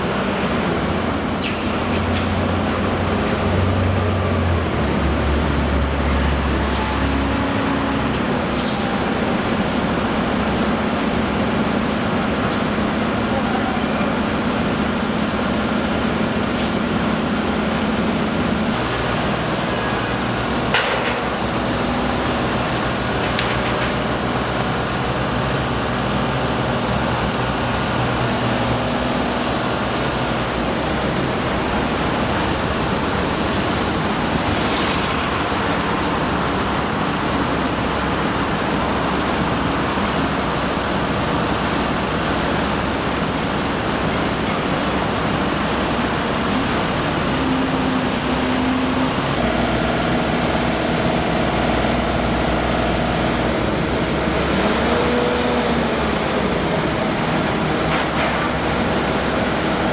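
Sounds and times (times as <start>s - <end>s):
engines humming: 0.0s - 42.9s, 43.8s - 59.9s.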